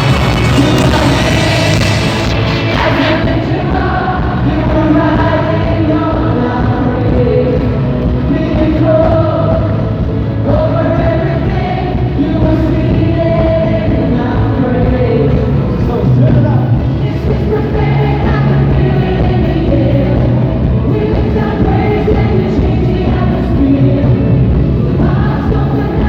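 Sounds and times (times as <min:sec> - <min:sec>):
band playing worship music: 0:00.0 - 0:26.0
voices singing together: 0:00.0 - 0:26.0.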